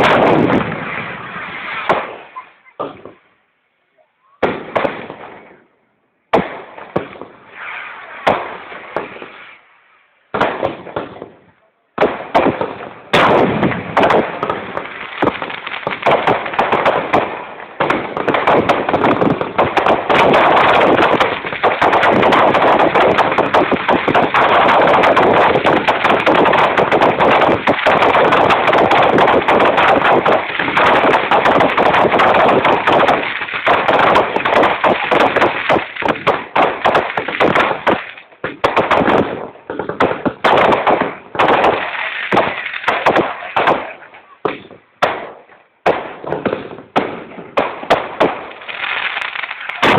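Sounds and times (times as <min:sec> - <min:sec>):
firecracker bangs and crackling: 0:00.0 - 0:03.3, 0:04.2 - 0:05.7, 0:06.3 - 0:09.7, 0:10.3 - 0:49.9.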